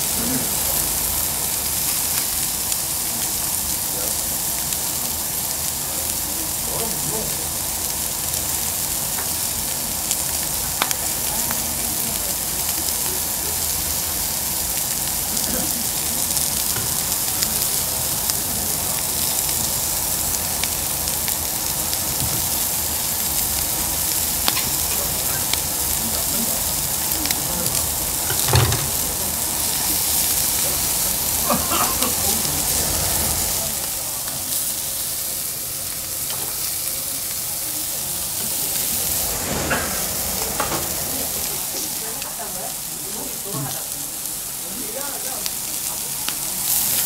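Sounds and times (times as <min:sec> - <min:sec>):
meat sizzling on grill plate: 0:00.0 - 0:47.0.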